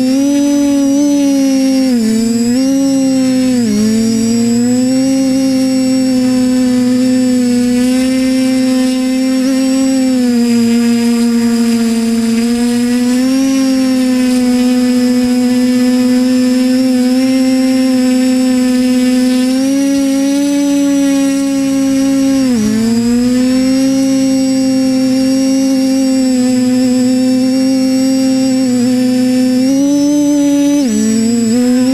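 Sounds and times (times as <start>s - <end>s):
drone motors whining: 0.0s - 31.9s.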